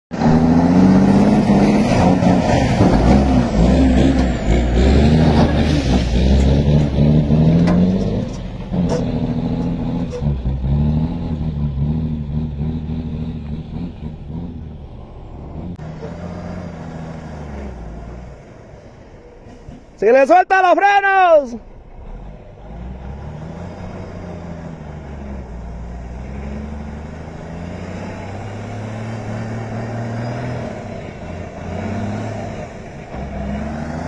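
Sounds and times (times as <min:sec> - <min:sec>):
diesel truck engine labouring: 0:00.1 - 0:34.0.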